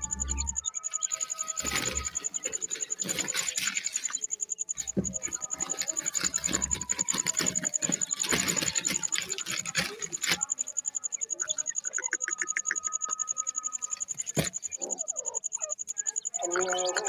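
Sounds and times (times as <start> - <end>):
chicks pecking and scratching dirt: 0.0 - 17.0.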